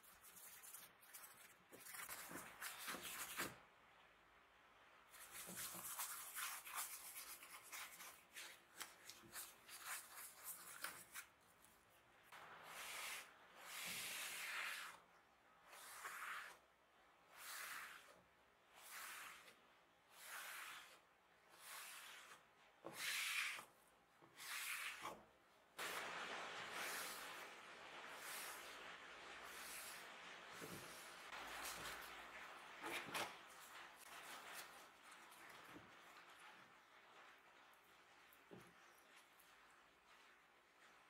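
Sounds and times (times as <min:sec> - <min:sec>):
brush strokes on wood: 0:05.3 - 0:41.0.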